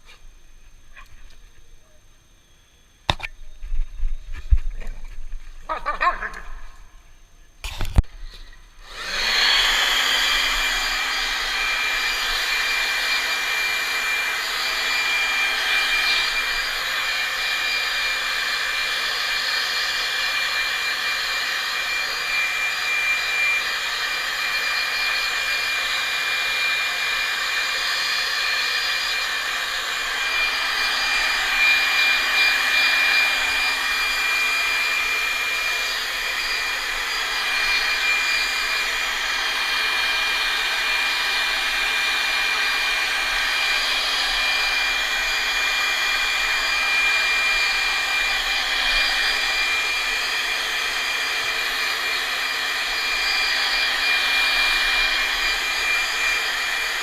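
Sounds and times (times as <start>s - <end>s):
blow dryer running: 7.6s - 57.0s.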